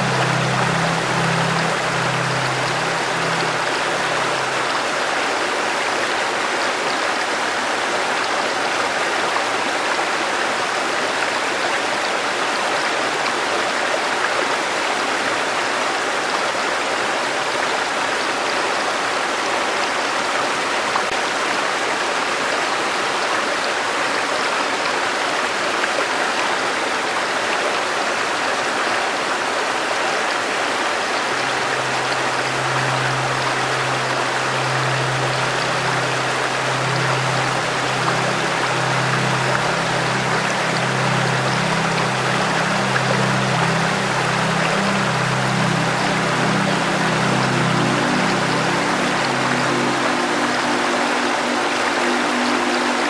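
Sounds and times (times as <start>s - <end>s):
river flowing over stones: 0.0s - 53.0s.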